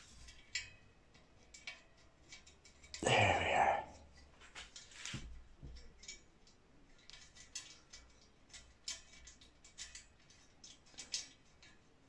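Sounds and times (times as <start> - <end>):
small metal parts clicking and scraping: 0.0 - 3.0, 4.0 - 12.0.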